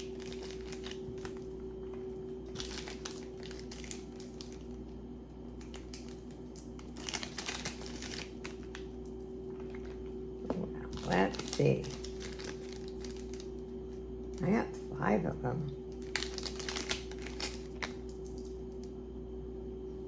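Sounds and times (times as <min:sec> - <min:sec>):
packaging crinkling and rustling: 0:00.0 - 0:14.1, 0:15.9 - 0:19.0
electrical hum: 0:00.0 - 0:20.0.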